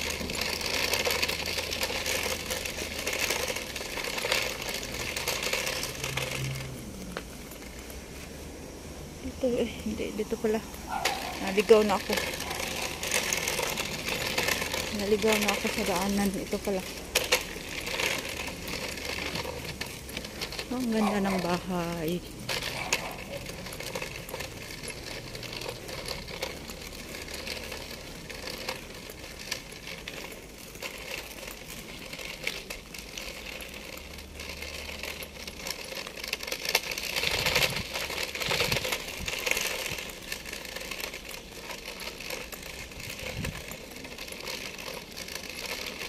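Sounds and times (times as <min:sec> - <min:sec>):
street background noise: 0:00.0 - 0:46.0.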